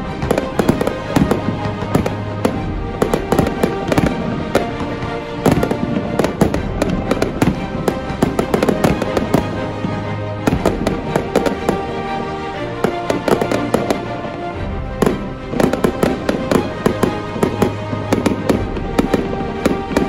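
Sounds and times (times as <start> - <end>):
background music: 0.0 - 20.0
fireworks bursting and crackling: 0.0 - 20.0.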